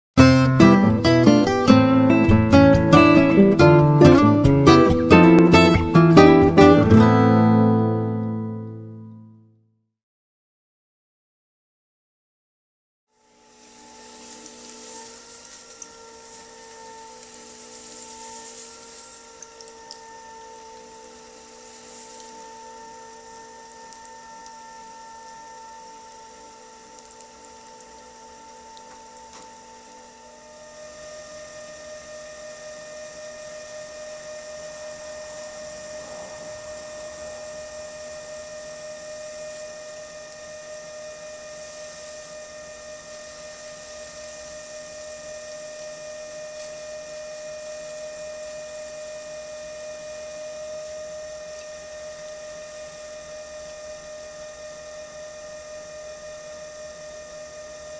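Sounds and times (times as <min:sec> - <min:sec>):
pottery wheel motor humming: 0:00.2 - 0:08.3, 0:13.2 - 0:57.9.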